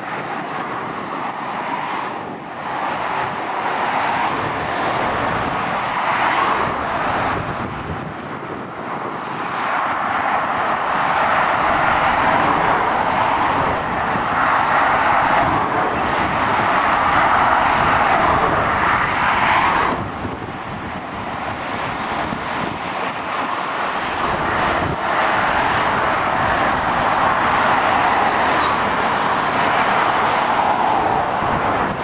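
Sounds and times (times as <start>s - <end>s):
road traffic rushing: 0.0s - 32.0s.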